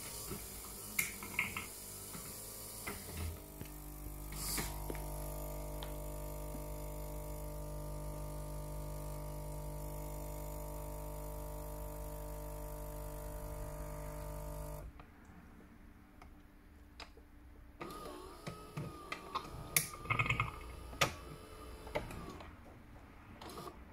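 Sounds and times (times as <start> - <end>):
espresso machine pump humming: 0.0 - 14.9, 17.8 - 22.5.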